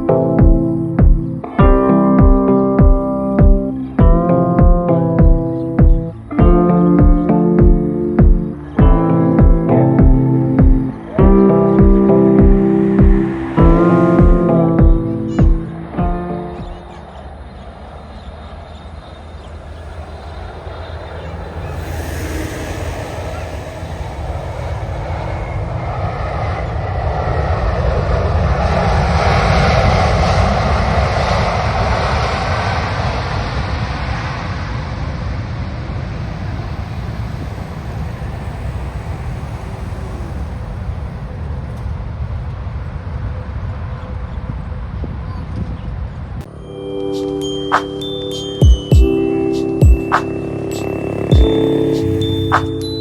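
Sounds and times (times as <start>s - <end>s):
jet airliner engine roar: 5.5s - 53.0s
jet engine whine: 5.5s - 53.0s.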